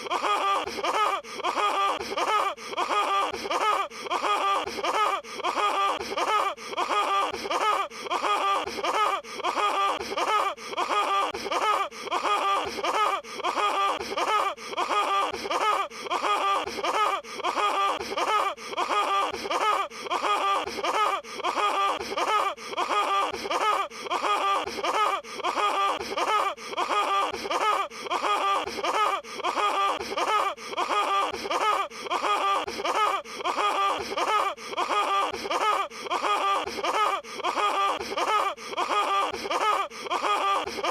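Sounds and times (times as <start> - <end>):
looped cartoon laugh: 0.0 - 40.9.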